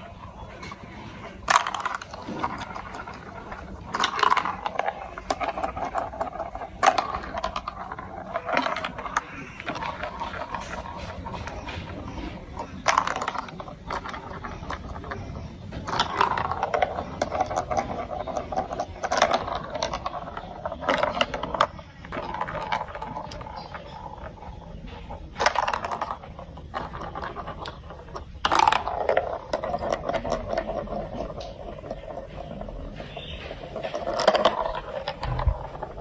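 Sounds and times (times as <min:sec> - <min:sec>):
marbles clattering: 0:00.0 - 0:36.0
marbles rolling on plastic track: 0:00.0 - 0:36.0.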